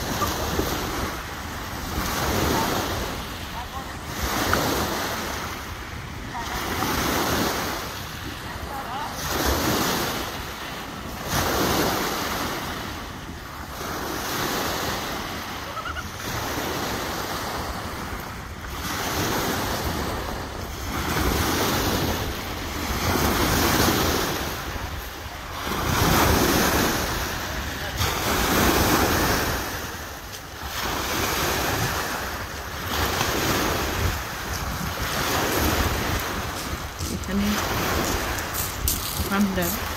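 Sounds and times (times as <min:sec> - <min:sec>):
waves washing up pebble beach: 0:00.0 - 0:39.9
wind on microphone: 0:00.0 - 0:39.9.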